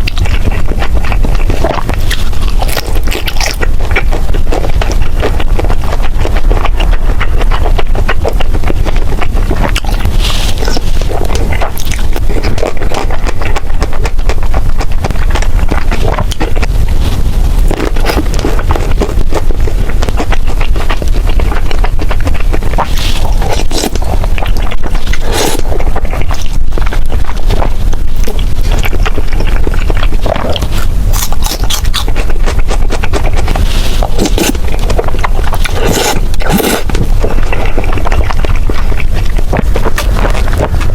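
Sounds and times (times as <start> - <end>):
close-up chewing noodles: 0.0 - 40.9
low microphone rumble: 0.0 - 40.9.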